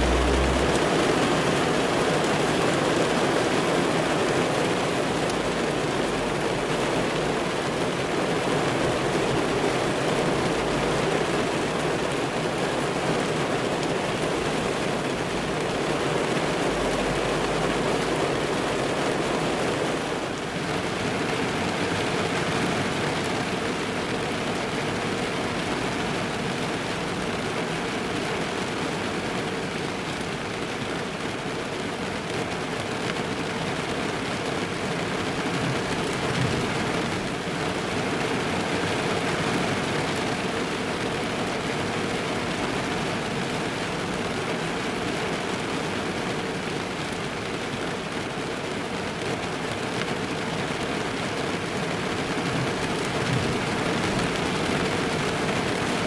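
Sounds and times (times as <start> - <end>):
rain on a car roof: 0.0 - 56.0.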